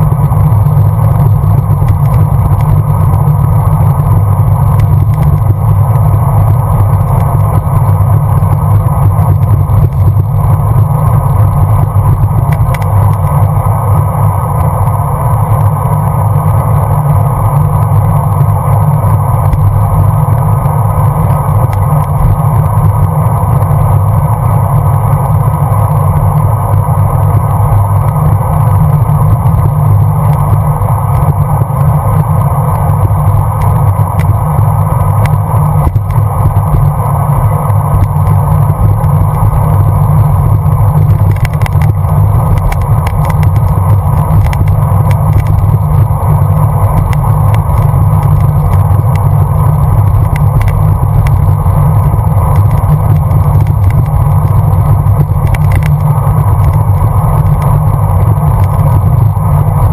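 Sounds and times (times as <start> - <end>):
road rumble: 0.0 - 59.9.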